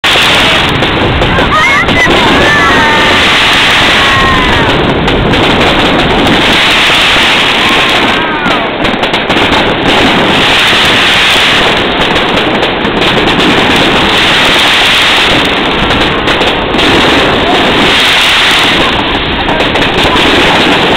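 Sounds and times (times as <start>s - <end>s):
fireworks crackling and popping: 0.0s - 20.9s.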